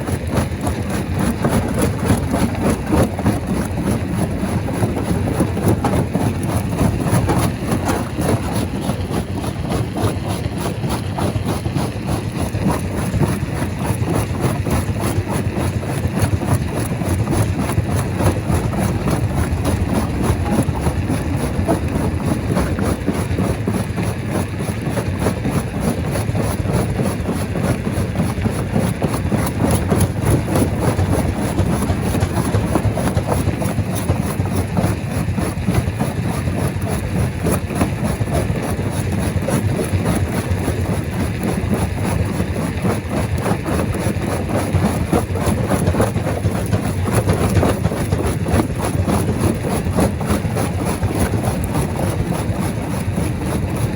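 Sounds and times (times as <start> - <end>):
rock crusher machinery rumbling: 0.0 - 53.9.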